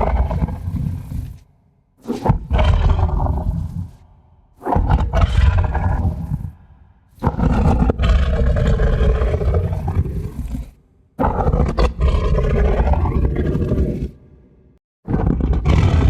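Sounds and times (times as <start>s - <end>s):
deep monster growls: 0.0s - 14.4s, 15.0s - 16.0s.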